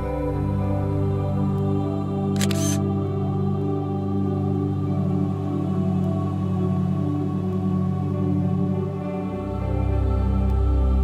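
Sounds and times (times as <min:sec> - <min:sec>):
ambient music with sustained tones: 0:00.0 - 0:11.0.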